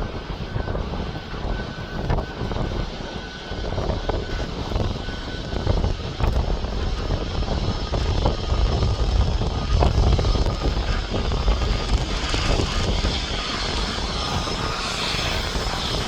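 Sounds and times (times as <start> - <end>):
airliner engines running: 0.0 - 16.0
wind buffeting microphone: 0.0 - 16.0.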